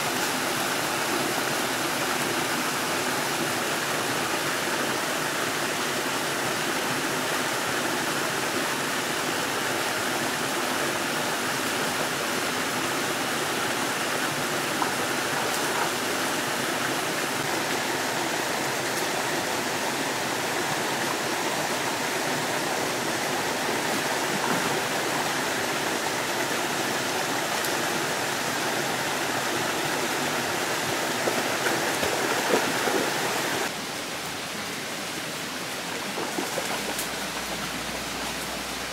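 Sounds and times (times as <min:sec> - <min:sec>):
stream rushing over cascade: 0:00.0 - 0:38.9.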